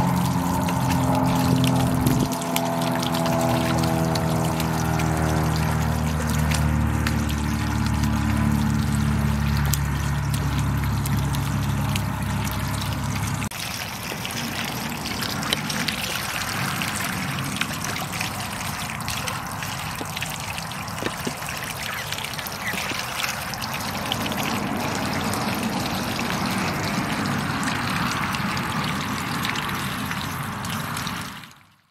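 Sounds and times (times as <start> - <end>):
low steady hum: 0.0 - 31.1
water pouring into puddle: 0.0 - 31.9.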